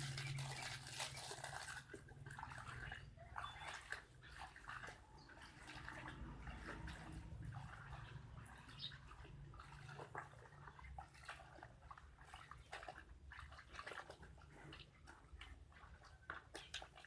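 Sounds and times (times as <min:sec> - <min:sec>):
water sloshing in a basin: 0:00.0 - 0:17.0.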